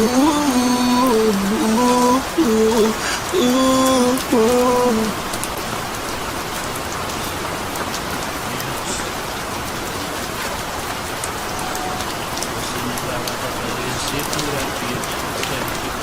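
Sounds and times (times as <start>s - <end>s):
raindrop ticks: 0.0s - 16.0s
steady rain falling: 0.0s - 16.0s.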